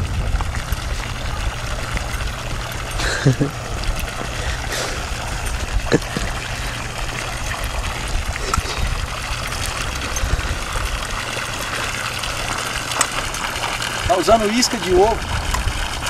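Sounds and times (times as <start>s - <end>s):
pond water trickling and splashing: 0.0s - 16.0s.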